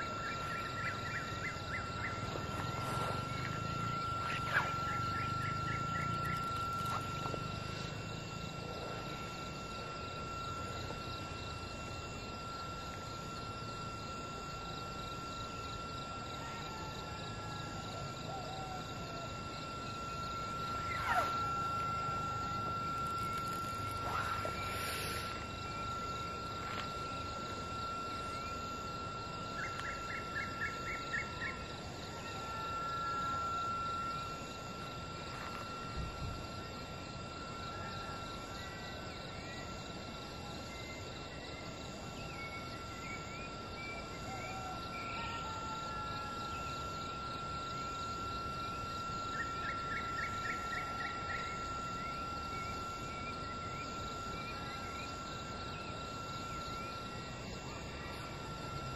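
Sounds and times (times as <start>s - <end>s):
constant hiss: 0.0s - 58.9s
high-pitched insect trill: 0.0s - 58.9s.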